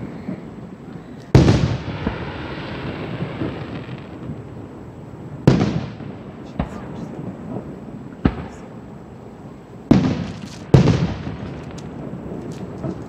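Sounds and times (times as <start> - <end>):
distant fireworks booming: 0.0 - 13.0.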